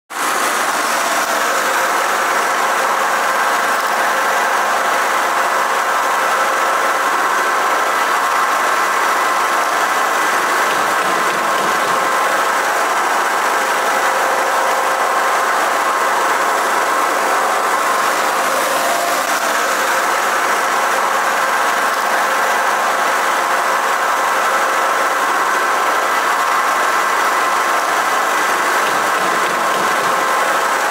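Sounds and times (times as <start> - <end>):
high machine whines: 0.1 - 30.9
machinery drone and hiss: 0.2 - 30.9.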